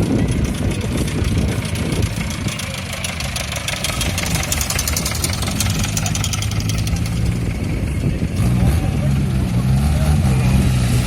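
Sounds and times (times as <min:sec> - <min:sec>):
tractor engine idling: 0:00.0 - 0:09.6.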